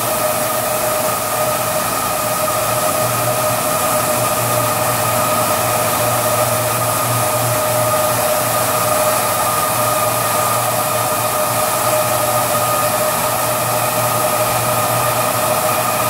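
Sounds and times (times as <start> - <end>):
carpet washing machine humming: 0.0 - 16.0.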